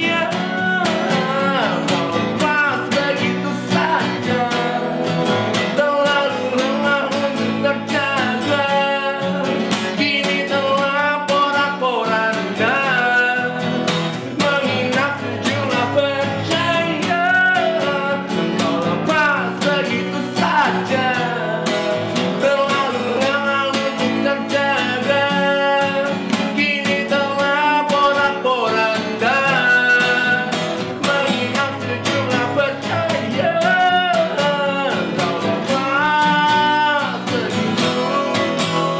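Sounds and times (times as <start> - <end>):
acoustic guitars playing: 0.0 - 38.9
man singing: 0.0 - 38.9.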